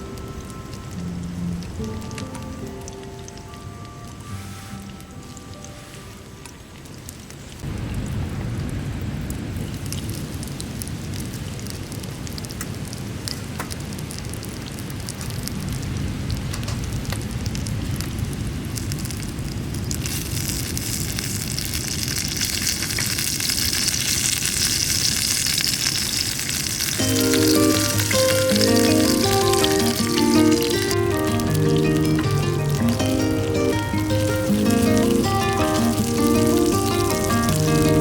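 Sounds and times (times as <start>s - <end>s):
dense sizzling hiss: 0.0s - 38.0s
scattered crackles: 0.0s - 38.0s.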